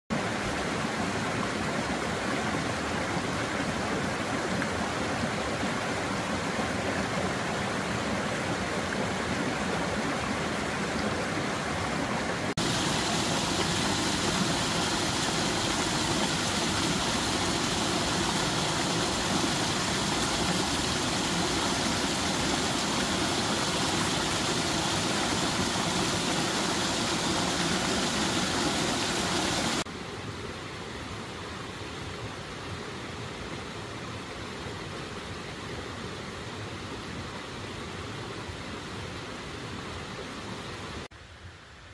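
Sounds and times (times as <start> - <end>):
stream rushing over boulders: 0.1 - 41.9.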